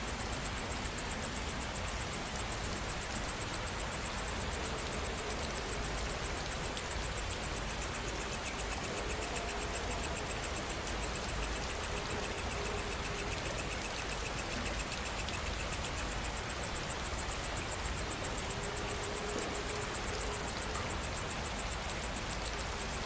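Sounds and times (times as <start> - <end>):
insects trilling: 0.0 - 23.0
steady rain falling: 0.0 - 23.0
lower insect pulsing: 1.8 - 23.0.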